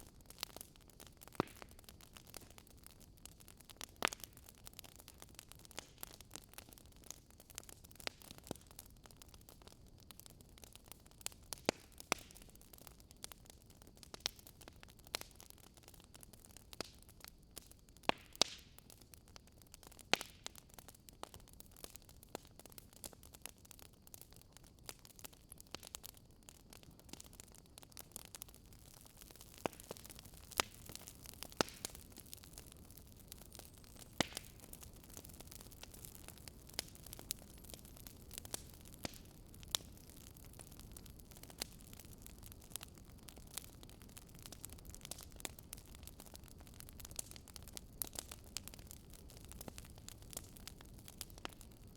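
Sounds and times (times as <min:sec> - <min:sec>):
soft steady hiss: 0:00.0 - 0:51.9
wood fire crackling: 0:00.0 - 0:51.9.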